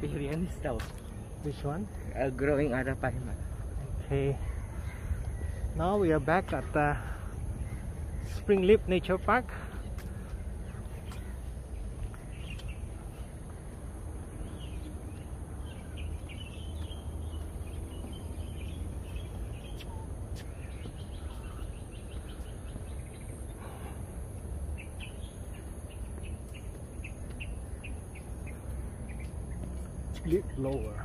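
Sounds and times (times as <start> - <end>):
birds chirping: 0.0 - 31.0
steady low rumble: 0.0 - 31.0.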